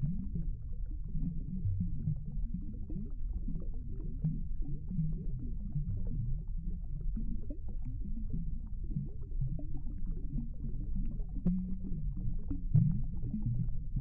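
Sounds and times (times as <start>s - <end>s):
muffled underwater rumbling: 0.0s - 14.0s.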